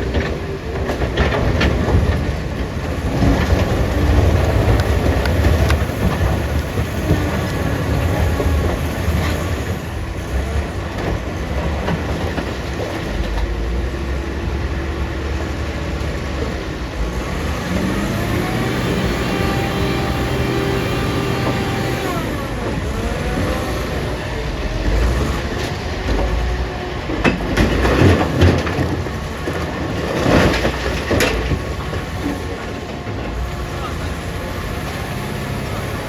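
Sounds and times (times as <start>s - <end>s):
heavy diesel machinery rumbling: 0.0s - 36.0s.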